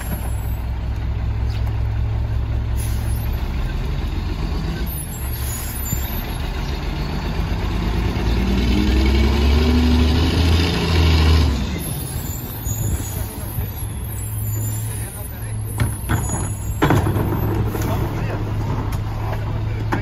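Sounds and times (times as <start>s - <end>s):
diesel truck engine idling and revving: 0.0s - 20.0s.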